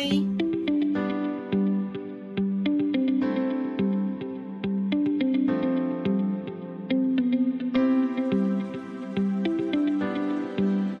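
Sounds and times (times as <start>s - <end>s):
gentle background music: 0.0s - 11.0s.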